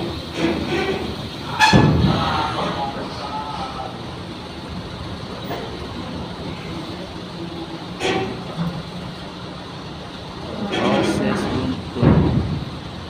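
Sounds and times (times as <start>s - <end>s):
ferry machinery hum and rumble: 0.0s - 13.0s.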